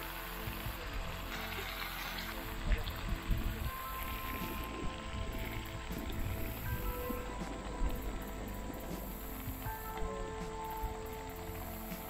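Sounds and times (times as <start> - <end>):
background music: 0.0 - 12.0
steady hiss: 0.0 - 12.0.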